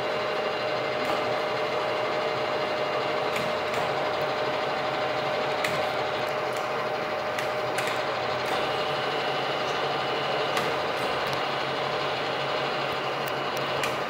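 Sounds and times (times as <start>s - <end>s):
milling machine motor whine: 0.0s - 14.0s.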